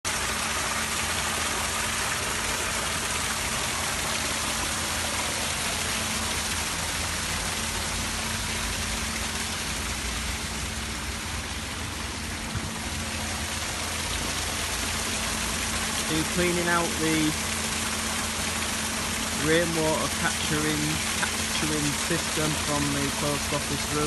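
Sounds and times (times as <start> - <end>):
water draining from tank: 0.1 - 24.0.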